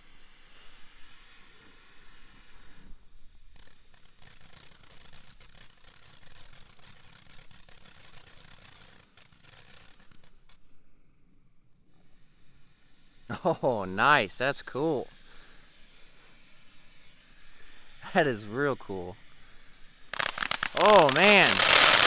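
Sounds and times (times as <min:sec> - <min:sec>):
firework fountain hissing and crackling: 0:00.0 - 0:10.7, 0:12.0 - 0:22.0.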